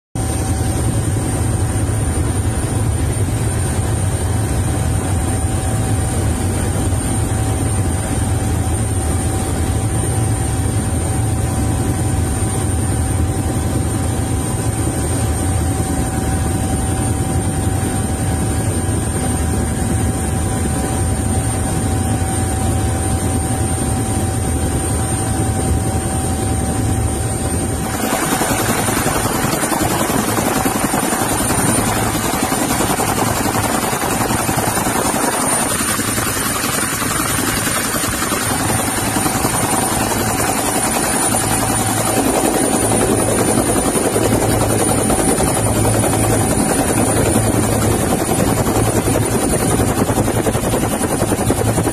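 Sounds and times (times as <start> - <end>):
helicopter engine and rotor drone: 0.2 - 51.9.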